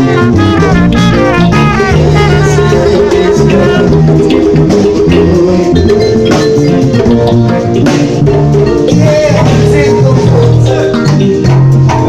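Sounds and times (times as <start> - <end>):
band playing dance music: 0.0 - 12.0.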